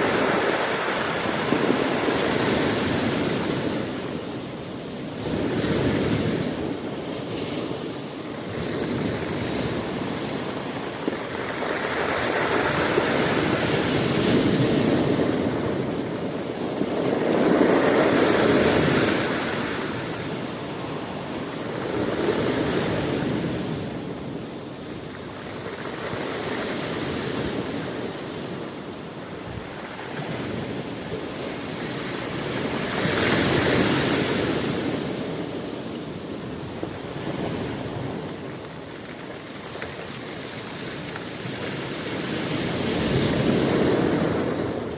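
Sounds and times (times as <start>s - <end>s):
sea waves breaking on shore: 0.0s - 44.9s.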